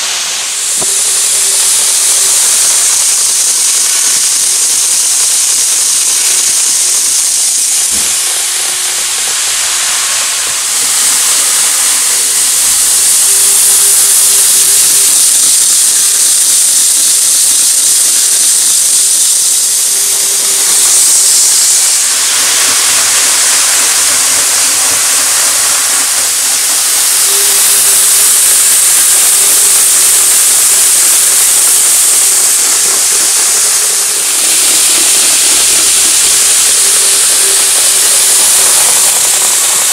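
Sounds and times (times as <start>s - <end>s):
model train wheels hissing: 0.0s - 39.9s.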